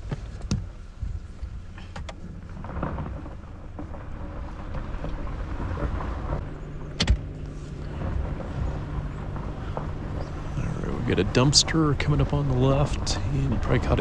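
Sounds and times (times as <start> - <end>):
vehicle driving slowly: 0.0 - 14.0.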